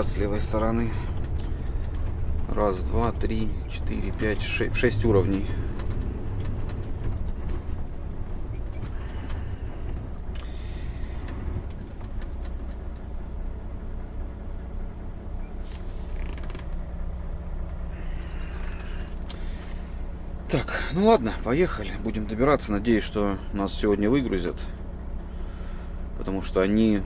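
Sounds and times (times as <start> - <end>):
truck cab creaks and clicks: 0.0 - 25.3
diesel engine humming: 0.0 - 27.0.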